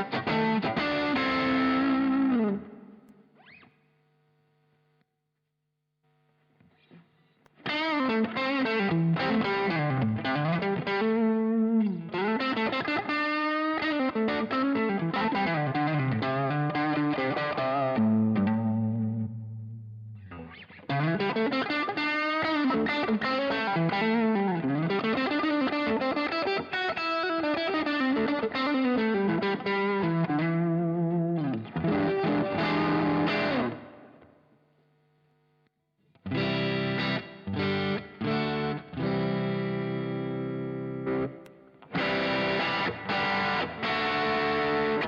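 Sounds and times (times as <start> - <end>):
overdriven electric guitar: 0.0 - 3.7, 6.6 - 34.5, 36.1 - 45.0.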